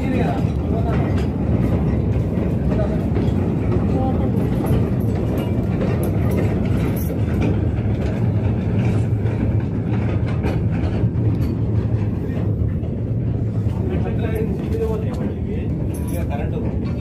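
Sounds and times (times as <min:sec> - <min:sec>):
constant hum: 0:00.0 - 0:17.0
low rumble of machinery: 0:00.0 - 0:17.0.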